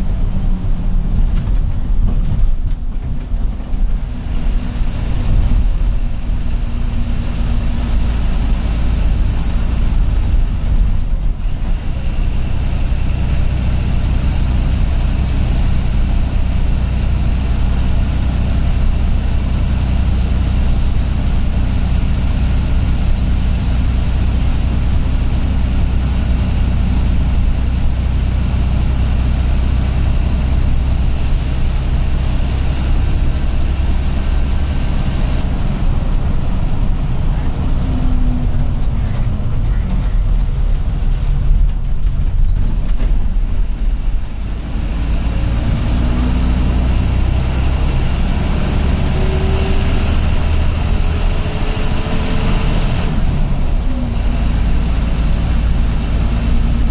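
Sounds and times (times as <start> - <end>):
bus diesel engine droning: 0.0 - 56.9
road noise: 0.0 - 56.9.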